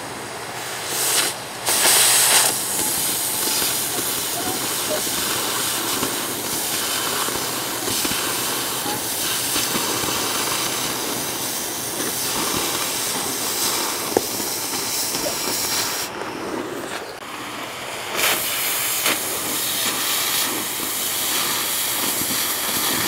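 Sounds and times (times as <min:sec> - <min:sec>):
cutting torch hissing: 0:00.0 - 0:23.0.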